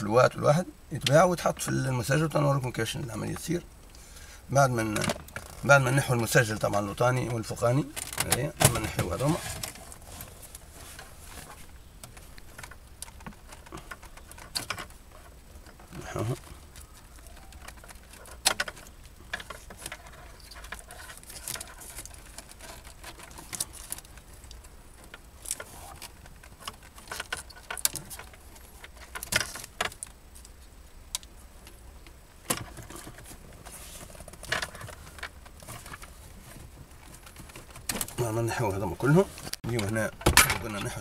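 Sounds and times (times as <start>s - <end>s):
metal radio casing being handled: 4.8s - 41.0s.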